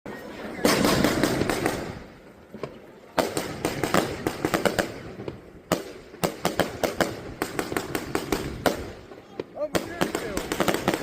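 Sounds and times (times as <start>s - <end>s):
fireworks bangs: 0.5s - 11.0s.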